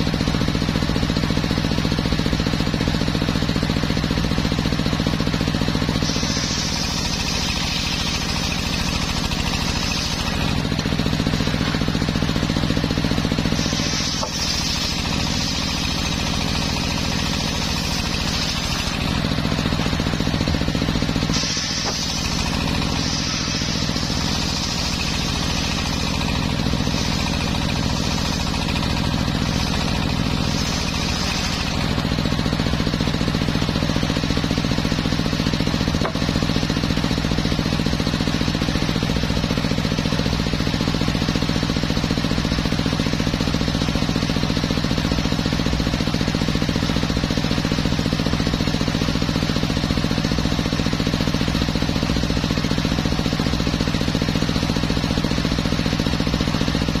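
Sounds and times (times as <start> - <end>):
circular saw motor drone: 0.0 - 49.0
saw blade cutting wood hiss: 0.4 - 57.0.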